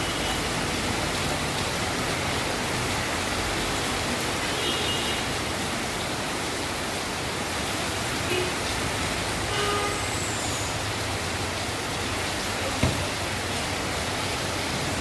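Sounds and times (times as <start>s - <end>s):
heavy rain hiss: 0.0s - 15.0s
traffic on wet road: 0.0s - 15.0s.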